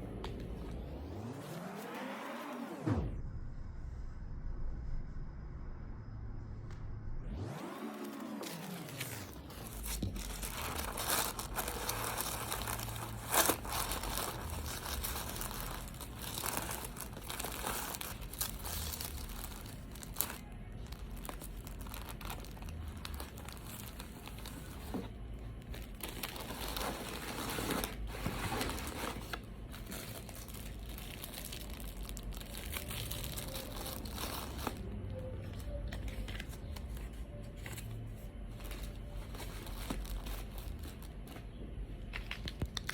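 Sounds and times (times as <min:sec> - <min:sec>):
paper crinkling and rustling: 0:07.8 - 0:42.9.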